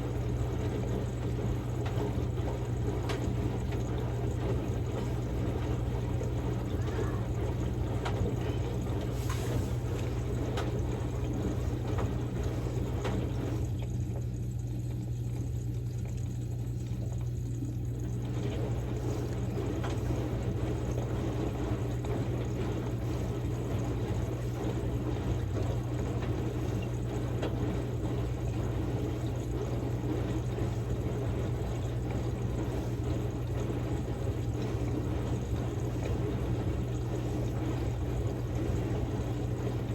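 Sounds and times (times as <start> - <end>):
washing machine motor hum: 0.0 - 39.9
water sloshing in drum: 0.0 - 39.9.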